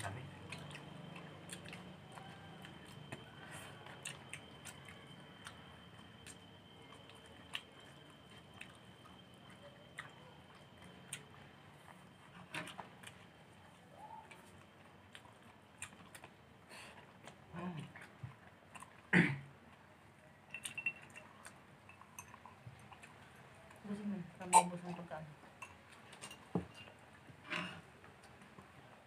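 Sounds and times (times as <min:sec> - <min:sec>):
people chewing: 0:00.0 - 0:29.0.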